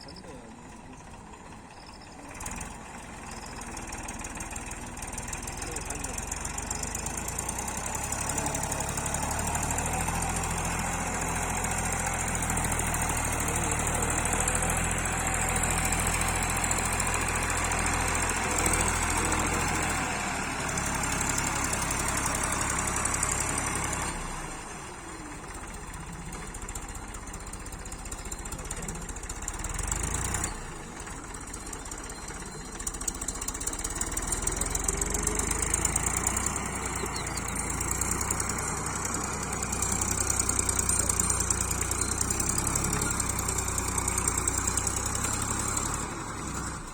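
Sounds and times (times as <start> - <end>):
diesel tractor engine knocking: 0.0 - 46.9.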